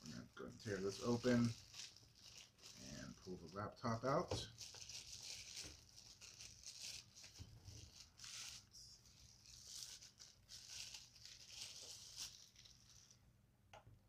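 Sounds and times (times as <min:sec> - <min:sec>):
plastic bag crinkling and rustling: 0:00.0 - 0:13.2.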